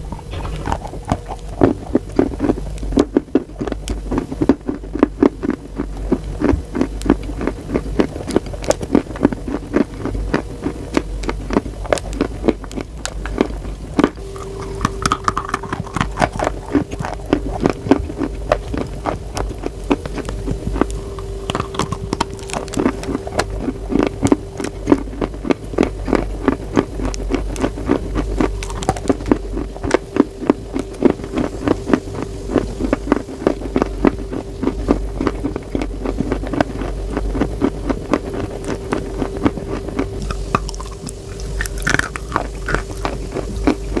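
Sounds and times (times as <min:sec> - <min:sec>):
chalk being chewed: 0:00.0 - 0:44.0
steady low hum: 0:00.0 - 0:44.0.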